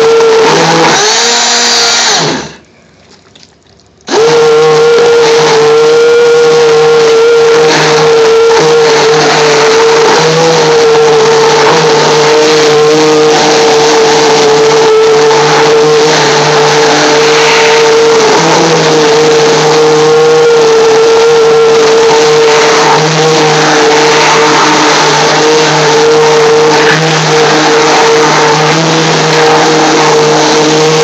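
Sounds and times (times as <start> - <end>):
stick blender motor whine: 0.0 - 2.6, 4.1 - 31.0.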